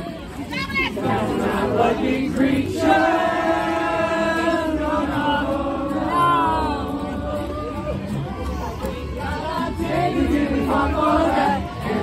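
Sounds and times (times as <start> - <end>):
accordion: 0.0 - 12.0
acoustic guitar: 0.0 - 12.0
voices singing together: 0.7 - 12.0.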